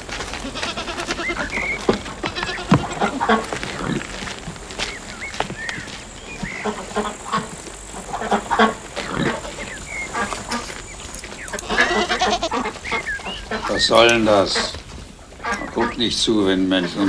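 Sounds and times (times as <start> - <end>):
goats bleating: 0.0 - 14.8.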